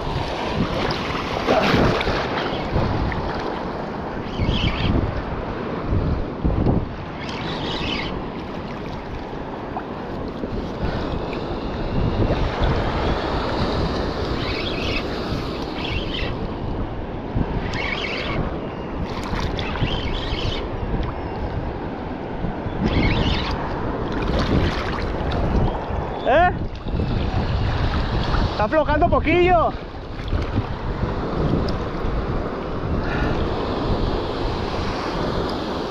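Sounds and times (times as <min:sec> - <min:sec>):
surf water sloshing: 0:00.0 - 0:04.3, 0:07.2 - 0:18.3, 0:18.9 - 0:20.2, 0:23.6 - 0:35.9
wind buffeting microphone: 0:00.0 - 0:35.9.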